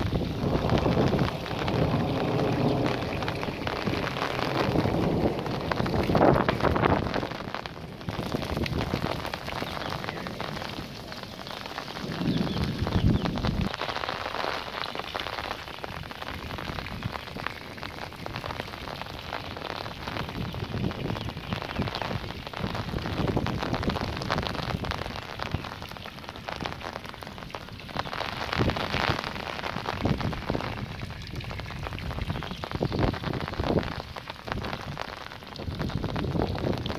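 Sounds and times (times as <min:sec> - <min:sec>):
wind gusting over microphone: 0:00.0 - 0:26.0, 0:27.7 - 0:35.0, 0:35.6 - 0:36.9
heavy rain: 0:00.0 - 0:36.9.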